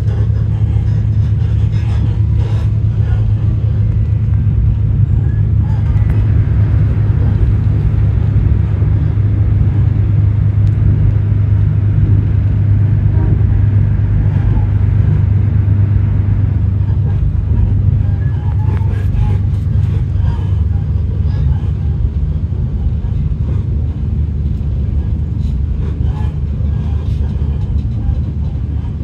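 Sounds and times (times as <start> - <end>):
railcar engine and wheels rumbling: 0.0 - 29.0.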